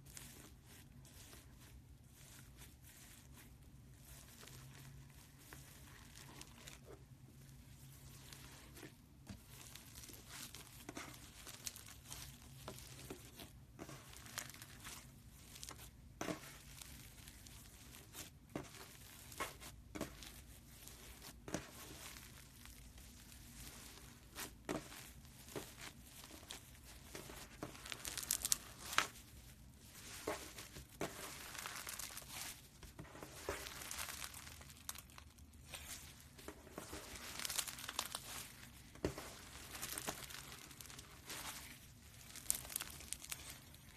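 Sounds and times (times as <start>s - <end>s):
foam slime crackling: 0.0s - 43.9s.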